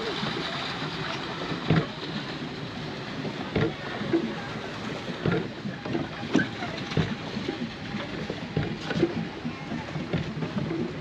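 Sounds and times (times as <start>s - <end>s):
water washing: 0.0s - 11.0s.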